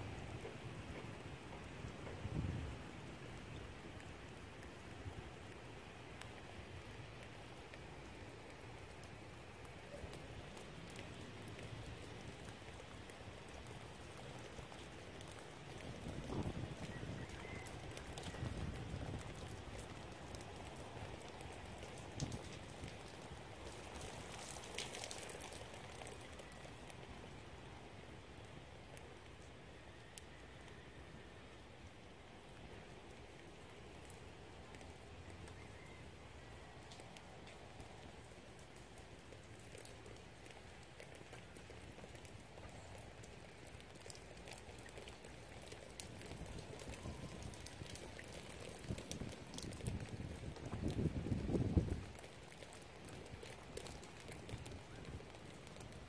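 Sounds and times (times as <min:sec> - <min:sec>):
light rain falling: 0:00.0 - 0:56.0
raindrops ticking: 0:00.0 - 0:56.0.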